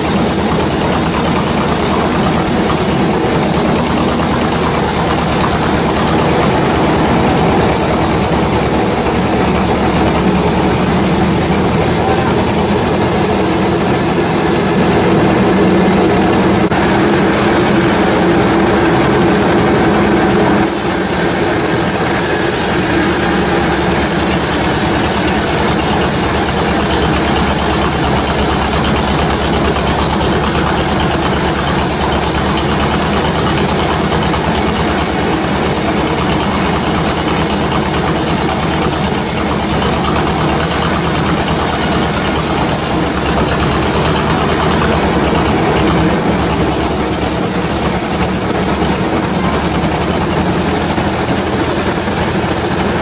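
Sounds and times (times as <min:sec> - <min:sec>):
sawmill saw running: 0:00.0 - 0:53.0.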